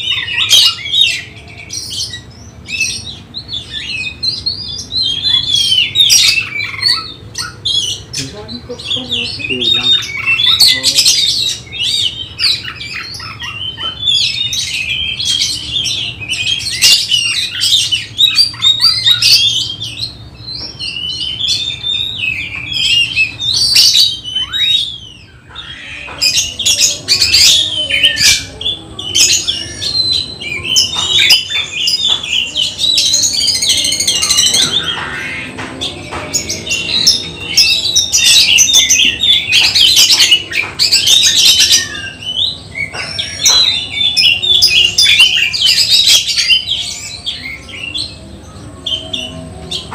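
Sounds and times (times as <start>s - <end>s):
bird singing: 0.0s - 49.9s.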